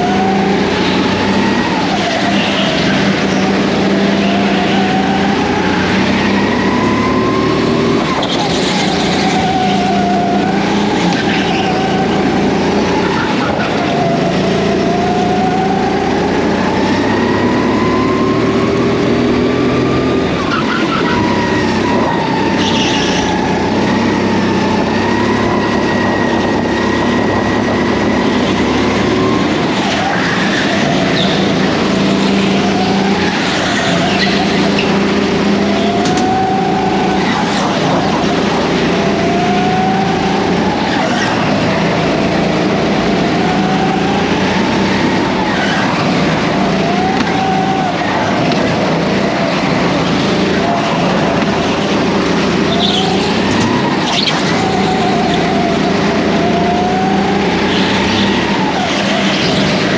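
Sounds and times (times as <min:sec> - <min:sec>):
racing kart motor revving: 0:00.0 - 0:59.9.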